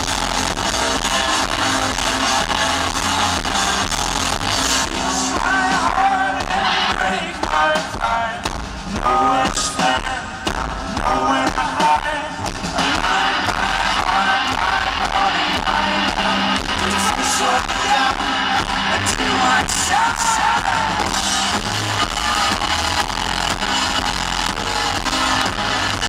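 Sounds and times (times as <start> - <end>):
drums and crashing cymbals: 0.0 - 26.0
rock band playing: 0.0 - 26.0.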